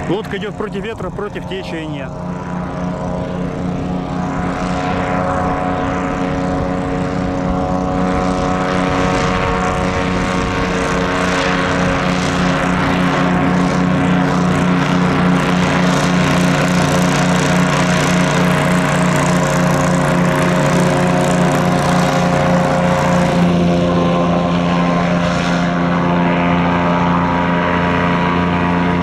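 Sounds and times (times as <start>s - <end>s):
airboat engine and propeller drone: 0.0s - 29.0s.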